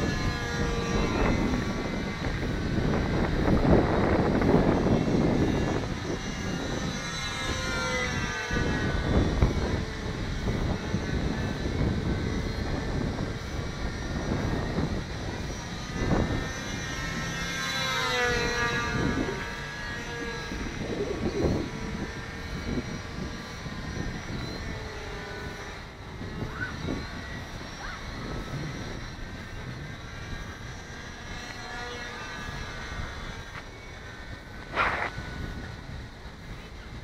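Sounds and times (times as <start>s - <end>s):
model plane motor whining: 0.0s - 37.0s
wind buffeting microphone: 0.0s - 37.0s.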